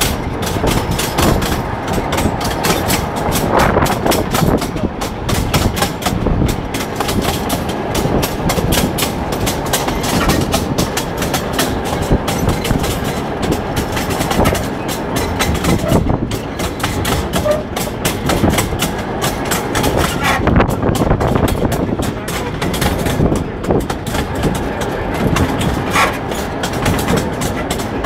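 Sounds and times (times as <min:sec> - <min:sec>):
continuous rumble: 0:00.0 - 0:28.0
wheels clattering on rail track: 0:00.0 - 0:28.0.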